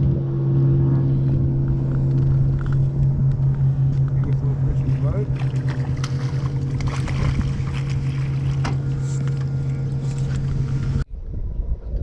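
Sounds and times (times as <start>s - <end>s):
boat motor running: 0.0s - 11.1s
water noise: 0.0s - 11.1s
wind noise: 0.0s - 12.0s.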